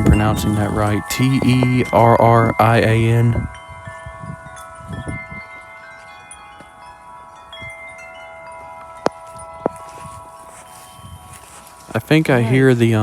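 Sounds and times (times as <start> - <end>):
wind chimes ringing: 0.0 - 13.0
wind rumble on microphone: 0.0 - 13.0.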